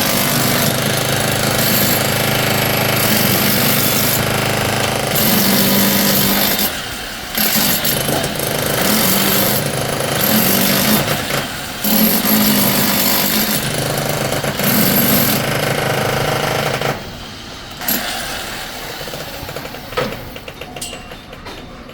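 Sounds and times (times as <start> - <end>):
jackhammer hammering: 0.0 - 17.2, 17.8 - 21.6.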